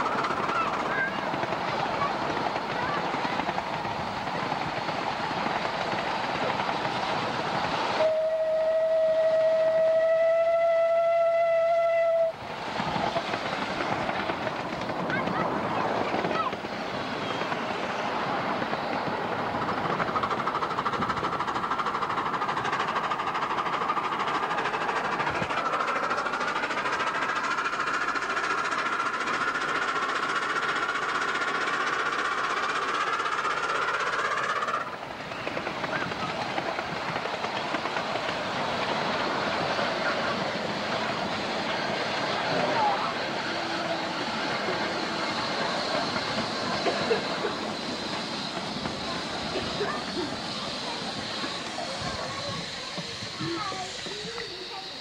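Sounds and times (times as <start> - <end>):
miniature train running on track: 0.0 - 55.0.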